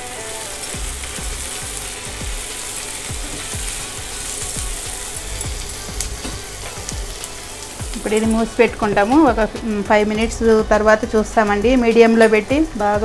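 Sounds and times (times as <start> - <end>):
vegetables frying with hiss: 0.0 - 13.0.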